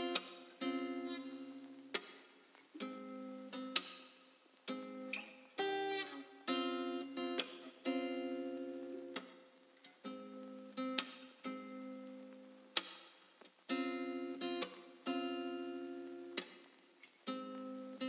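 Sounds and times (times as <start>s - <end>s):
guitar chords ringing: 0.0s - 2.2s, 2.8s - 4.1s, 4.7s - 12.9s, 13.7s - 18.0s.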